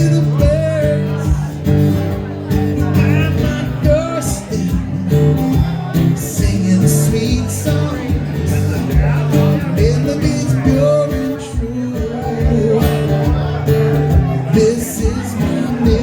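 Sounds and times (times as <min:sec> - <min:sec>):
person singing: 0:00.0 - 0:01.7, 0:02.6 - 0:16.0
acoustic guitar strummed: 0:00.0 - 0:16.0.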